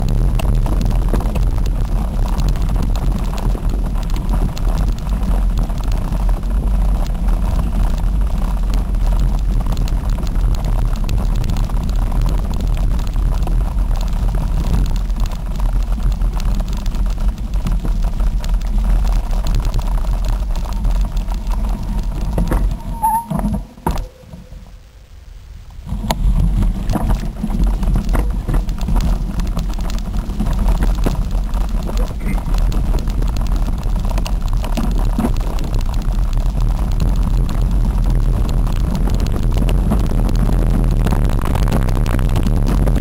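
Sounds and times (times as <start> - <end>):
wind buffeting microphone: 0.0 - 24.8, 25.8 - 43.0.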